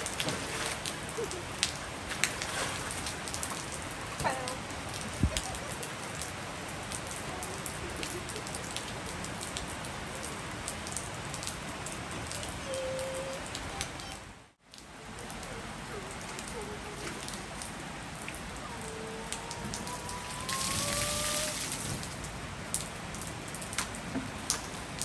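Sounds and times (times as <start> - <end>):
rain on a tiled roof: 0.0 - 25.0
water dripping: 0.0 - 25.0.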